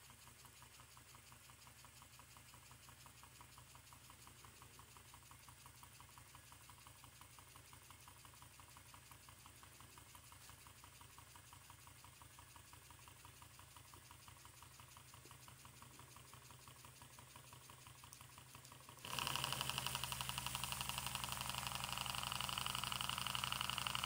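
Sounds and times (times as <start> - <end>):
steam engine exhaust puffs: 0.0 - 24.0.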